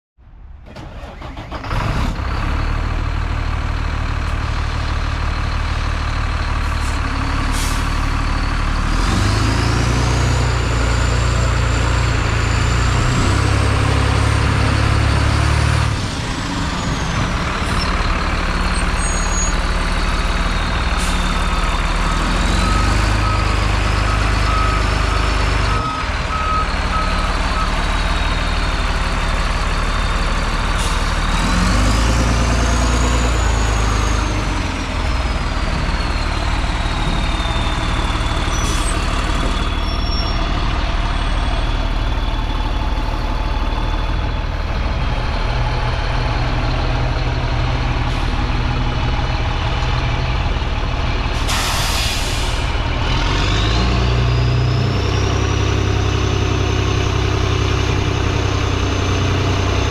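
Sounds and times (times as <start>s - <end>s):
diesel truck engine idling: 2.2s - 9.0s, 9.9s - 59.9s.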